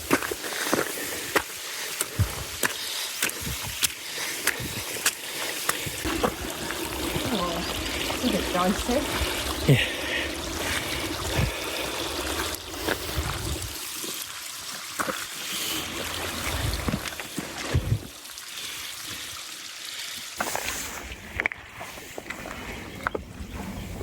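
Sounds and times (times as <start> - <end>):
stream running over rocks: 0.0 - 23.2.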